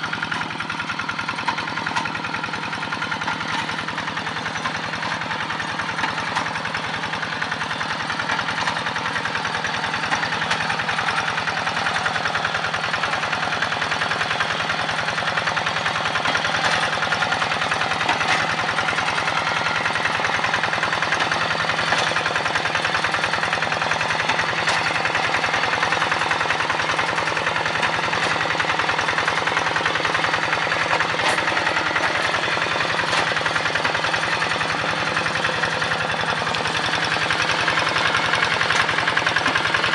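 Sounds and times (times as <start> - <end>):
diesel engine knocking steadily: 0.0 - 39.9.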